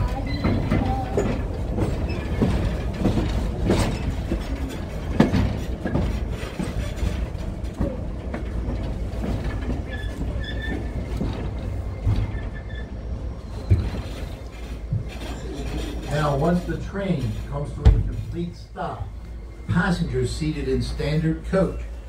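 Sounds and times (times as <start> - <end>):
train cars rumbling on rails: 0.0 - 22.0.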